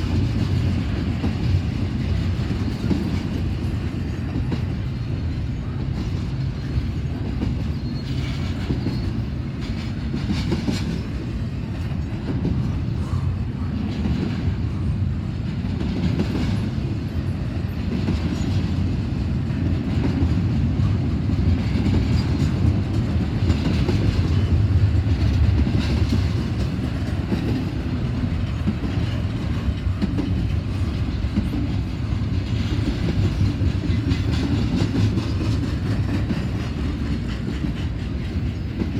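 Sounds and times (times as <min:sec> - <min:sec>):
wheels clacking over track joints: 0:00.0 - 0:14.7, 0:15.3 - 0:38.9
freight train rumbling past: 0:00.0 - 0:38.9.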